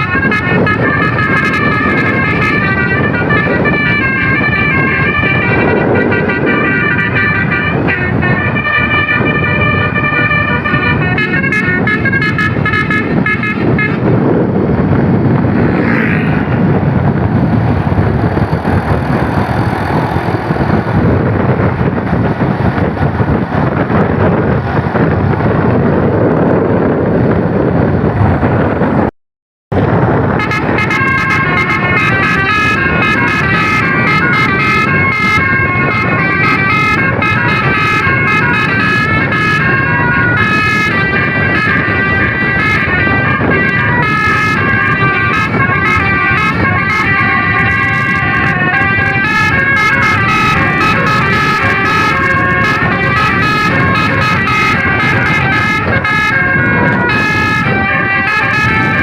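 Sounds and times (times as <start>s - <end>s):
bus horn playing a melody: 0.0s - 27.8s, 29.9s - 59.0s
steady vehicle noise: 0.0s - 29.1s, 29.7s - 59.0s.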